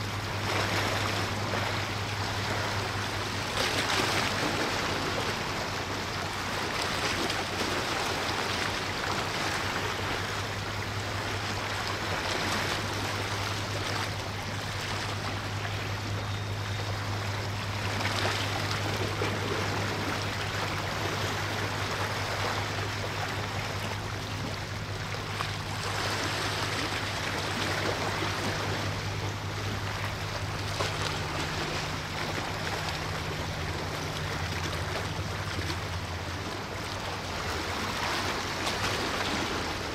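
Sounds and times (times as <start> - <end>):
low engine hum: 0.0 - 39.9
water rushing: 0.0 - 39.9.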